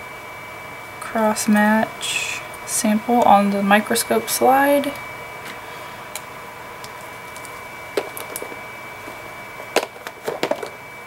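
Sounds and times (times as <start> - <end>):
steady high-pitched hum: 0.0 - 11.0.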